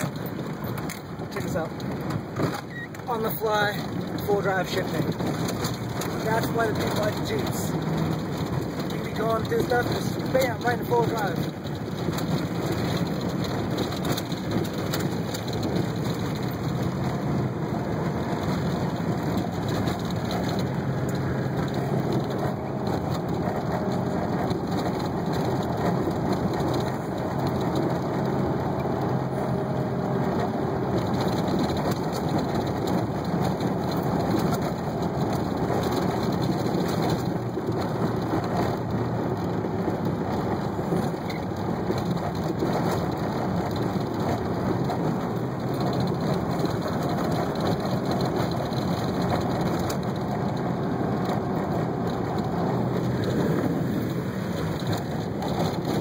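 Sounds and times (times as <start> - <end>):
car engine drone: 0.0 - 56.0
rain and vehicle rushing noise: 0.0 - 56.0.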